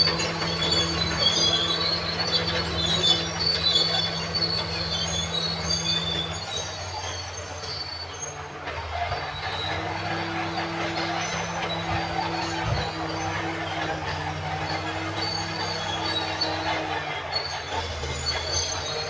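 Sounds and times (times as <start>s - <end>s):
bulldozer diesel engine running: 0.0s - 19.0s
steel tracks squealing: 0.0s - 19.0s.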